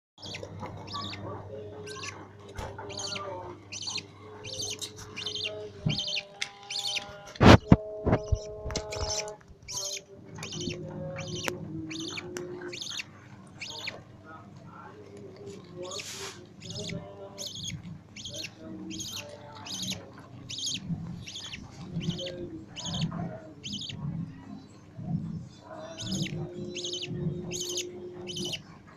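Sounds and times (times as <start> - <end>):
budgerigar chicks chirping: 0.2 - 14.1, 14.9 - 28.8
nestlings raspy begging calls: 0.2 - 14.1, 15.8 - 24.6, 25.6 - 28.6.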